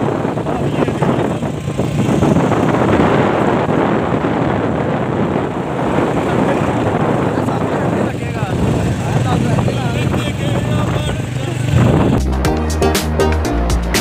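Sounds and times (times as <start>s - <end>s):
wind rushing over microphone: 0.0s - 12.5s
motorcycle engine: 0.0s - 14.0s
road noise: 0.0s - 14.0s.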